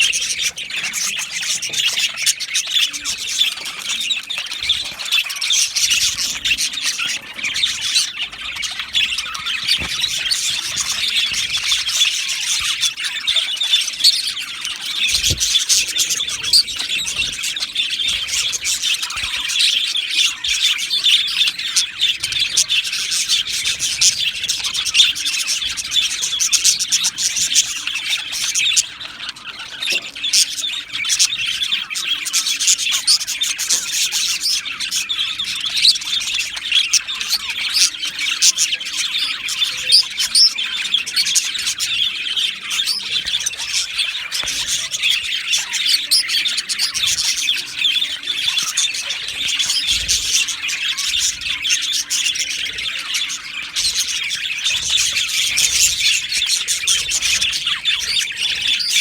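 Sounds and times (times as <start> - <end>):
bird squawks: 0.0 - 59.0
budgerigars chirping and twittering: 0.0 - 59.0.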